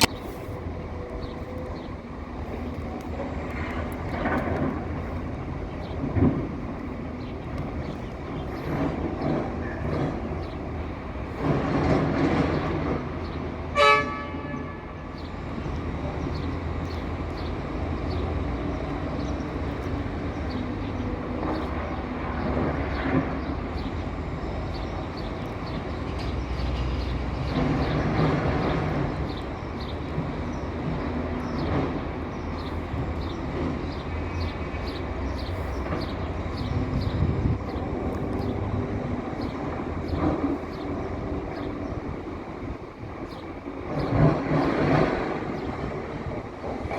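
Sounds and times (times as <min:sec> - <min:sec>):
excavator engines running: 0:00.0 - 0:46.9.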